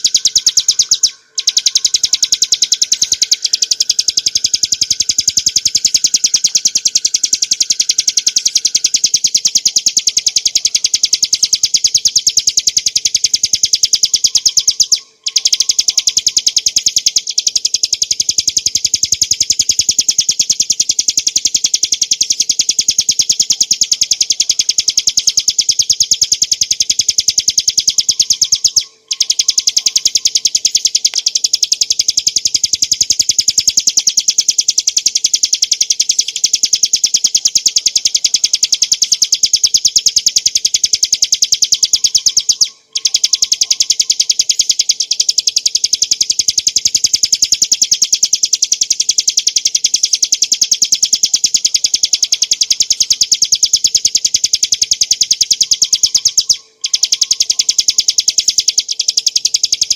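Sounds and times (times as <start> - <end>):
small bird singing rapid notes: 0.0 - 59.9.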